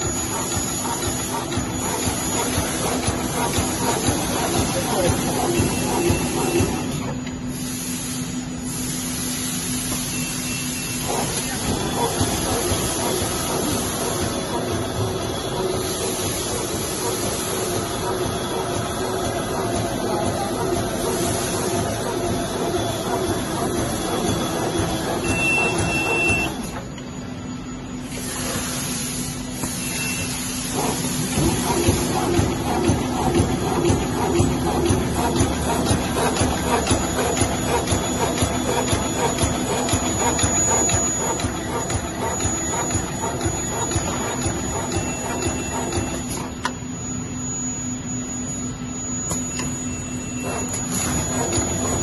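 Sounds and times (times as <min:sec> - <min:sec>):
bag making machine running: 0:00.0 - 0:52.0.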